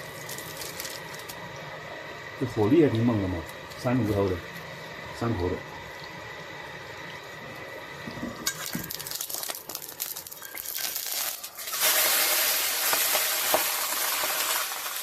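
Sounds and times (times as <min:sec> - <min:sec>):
oil crackling in a pan: 0:00.0 - 0:05.0, 0:05.8 - 0:15.0
vegetables sizzling in oil: 0:00.0 - 0:15.0.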